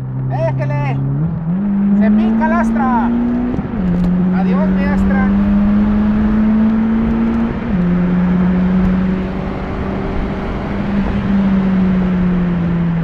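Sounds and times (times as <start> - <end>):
car engine revving hard: 0.6 - 13.0.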